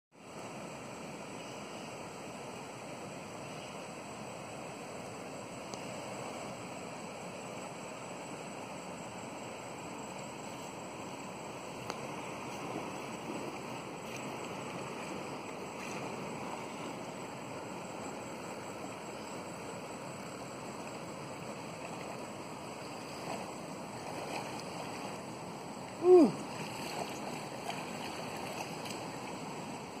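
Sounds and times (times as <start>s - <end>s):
distant river rapids rushing: 0.2s - 30.0s.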